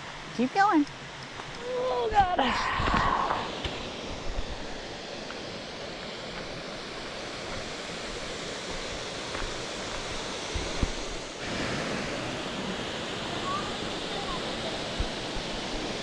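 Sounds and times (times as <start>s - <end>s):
falling water rushing: 0.0s - 16.0s.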